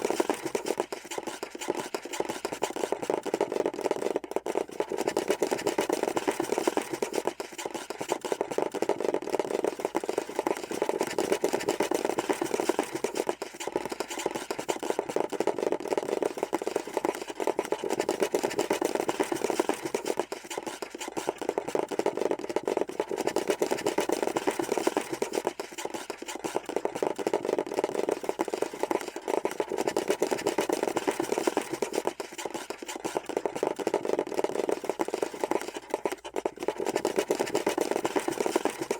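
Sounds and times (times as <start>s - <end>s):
scurrying patter of rapid taps: 0.0s - 38.9s.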